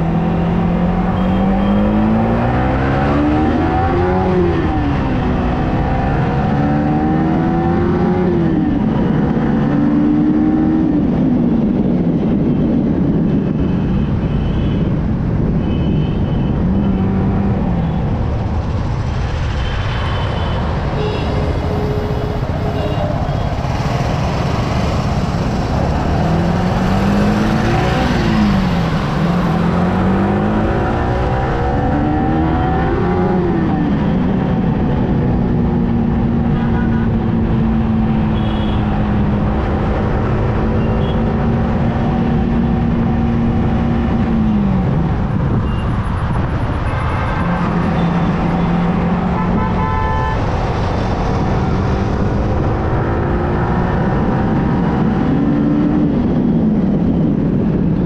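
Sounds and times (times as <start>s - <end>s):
wind on microphone: 2.1s - 58.0s.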